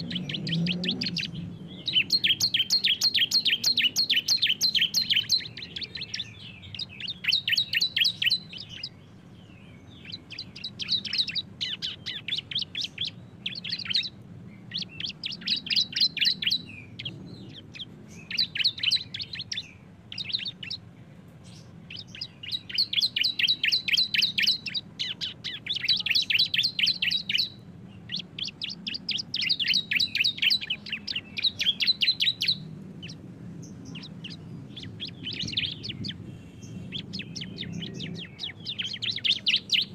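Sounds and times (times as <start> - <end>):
birds singing rattling trills: 0.0 - 39.9.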